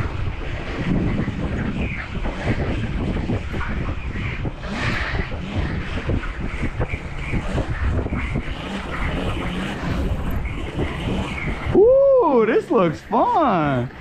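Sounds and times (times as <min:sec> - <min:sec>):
bike tyres rolling on pavement: 0:00.0 - 0:14.0
wind buffeting microphone: 0:00.0 - 0:14.0.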